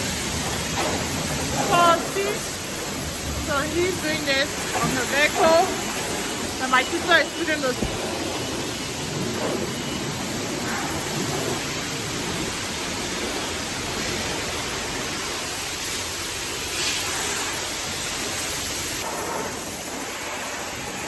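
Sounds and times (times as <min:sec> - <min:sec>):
pressure washer spraying water: 0:00.0 - 0:21.0.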